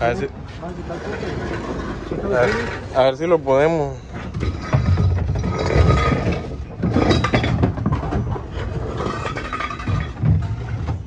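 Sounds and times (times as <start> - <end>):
metal clanking and scraping: 0.5 - 11.0.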